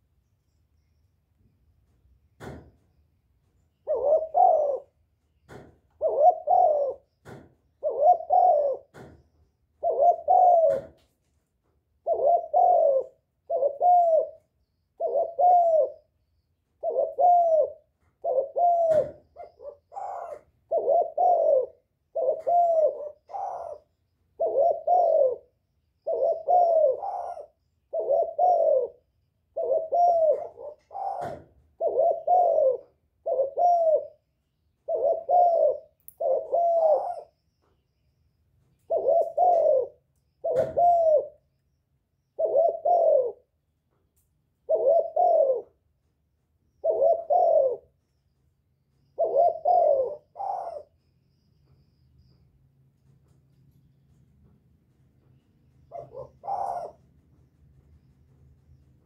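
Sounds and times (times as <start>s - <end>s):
dove cooing: 3.7s - 11.1s, 11.9s - 37.5s, 38.8s - 43.6s, 44.6s - 46.1s, 46.7s - 48.2s, 49.0s - 52.4s, 55.2s - 59.0s.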